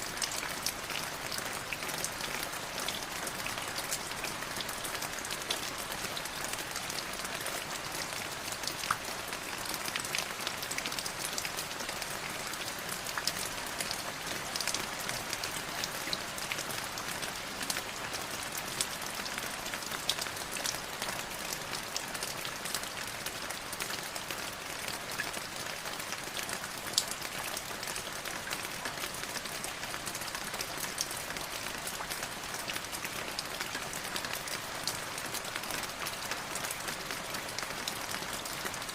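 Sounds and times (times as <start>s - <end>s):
light rain pattering: 0.0s - 38.9s.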